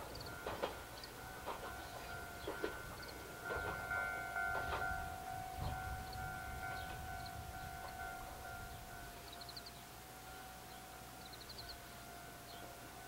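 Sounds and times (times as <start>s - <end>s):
level crossing bell ringing: 0.0s - 11.2s
distant diesel railcar rumbling: 0.0s - 13.0s.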